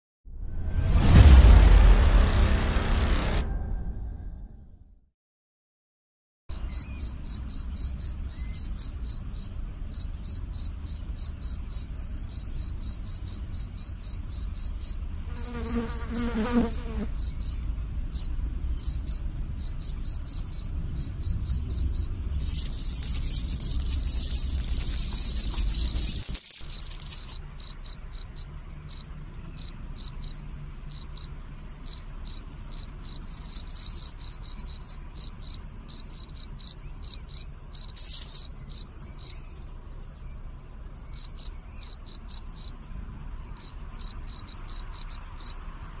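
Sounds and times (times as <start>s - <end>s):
cricket chirping: 6.5s - 46.0s.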